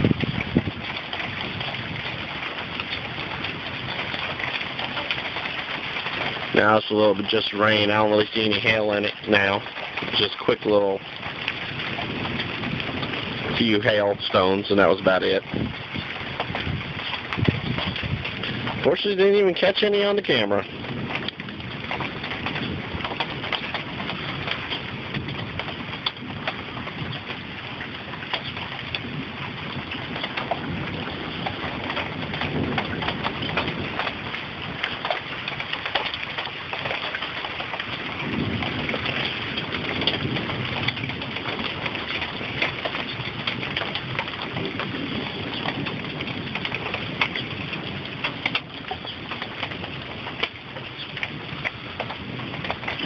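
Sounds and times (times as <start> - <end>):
raindrops ticking on metal awning: 0.0 - 53.0
steady rain falling: 0.0 - 53.0.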